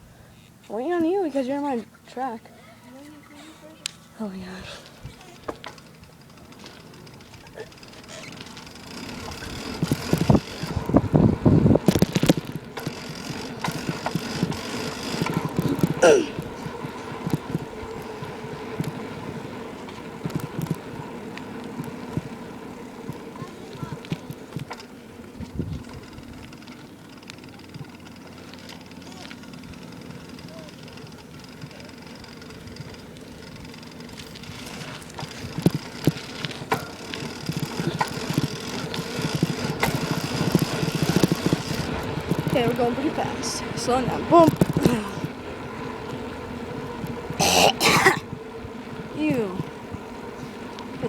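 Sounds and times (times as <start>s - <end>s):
bicycle tyre and wind rumble: 0.0s - 51.0s
bike rattles and knocks: 4.8s - 48.3s.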